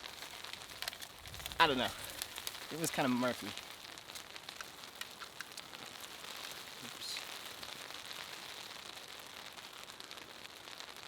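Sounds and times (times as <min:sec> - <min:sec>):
raindrops ticking on surfaces: 0:00.0 - 0:11.0
steady rain falling: 0:00.0 - 0:11.0.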